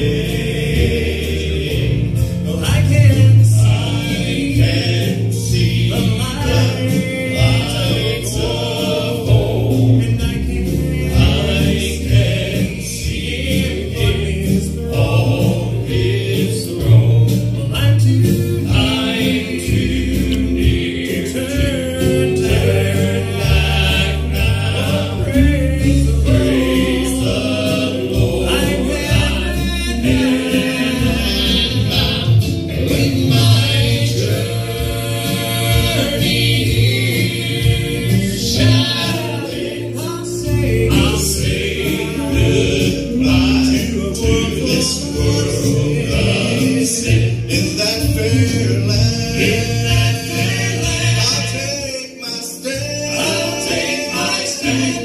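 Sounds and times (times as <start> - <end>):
sustained bass notes: 0.0 - 51.8
male quartet singing in harmony: 0.0 - 55.0.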